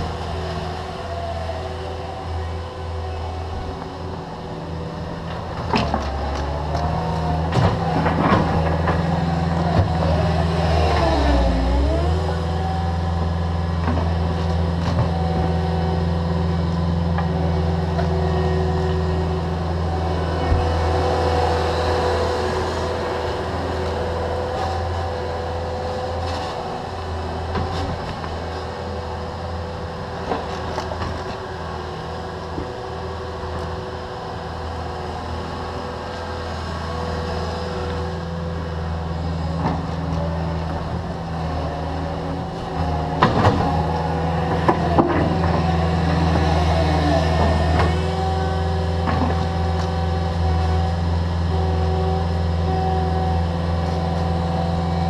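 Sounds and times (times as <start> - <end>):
diesel engines droning: 0.0 - 55.0.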